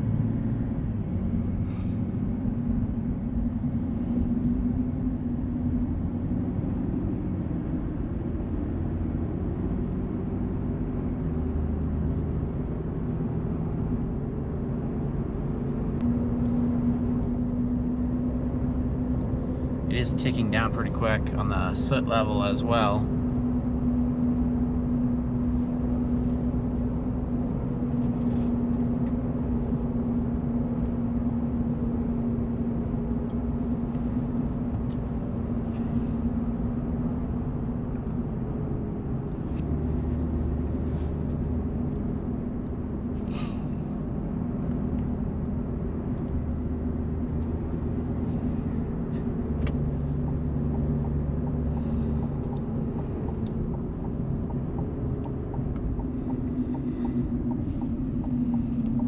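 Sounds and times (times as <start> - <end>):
steady low hum: 0.0 - 11.4, 12.6 - 59.0
diesel engine drone in cab: 0.0 - 59.0
road and tyre noise: 0.0 - 59.0.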